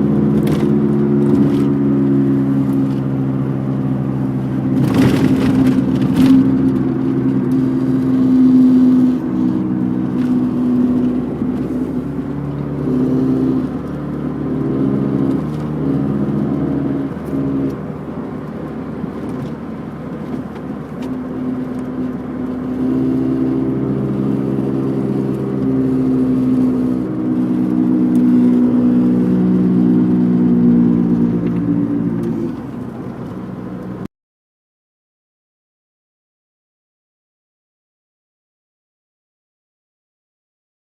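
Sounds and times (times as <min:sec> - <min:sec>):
car engine running: 0:00.0 - 0:34.1
wheel bearing humming whir: 0:00.0 - 0:34.1.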